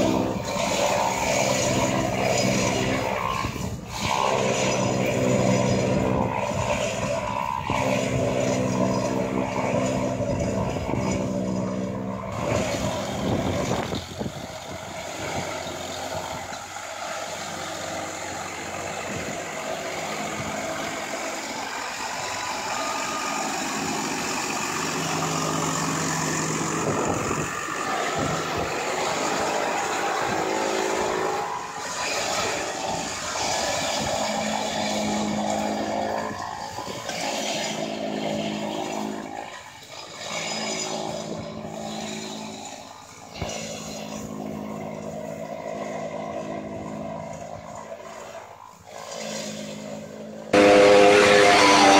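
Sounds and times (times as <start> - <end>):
chopper cutting grass: 0.0 - 51.9
tractor engine running: 0.0 - 51.9.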